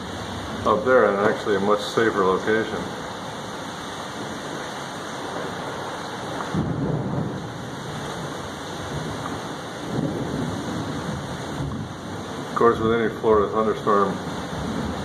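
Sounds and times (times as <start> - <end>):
heavy rain falling: 0.0 - 15.0
low rumble of thunder: 0.0 - 15.0.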